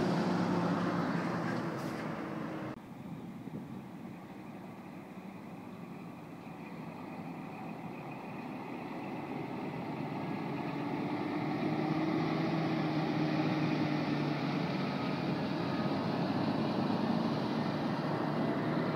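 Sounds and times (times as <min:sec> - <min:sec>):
truck diesel engine: 0:00.0 - 0:02.8, 0:04.0 - 0:18.9
truck tyres on road: 0:00.0 - 0:18.9.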